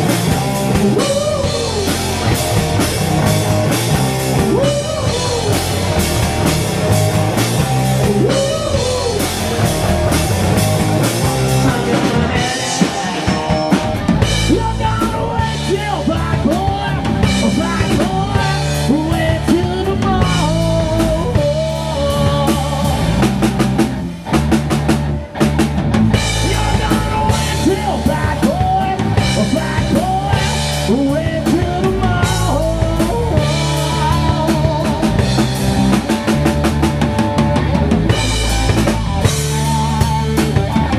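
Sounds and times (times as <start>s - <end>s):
man singing lead: 0.0s - 23.9s, 26.1s - 40.9s
rock band playing: 0.0s - 40.9s.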